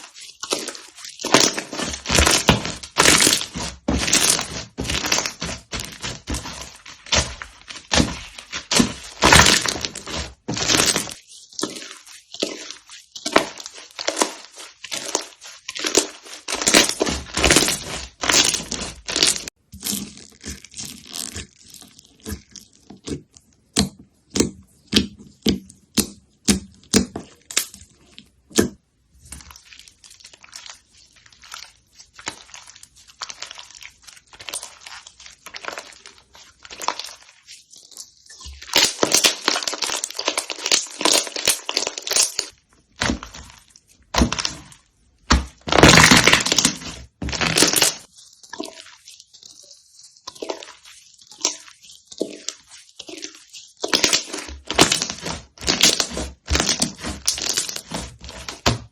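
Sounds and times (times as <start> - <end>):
slime crackling and popping: 0.0 - 25.2, 29.4 - 58.9.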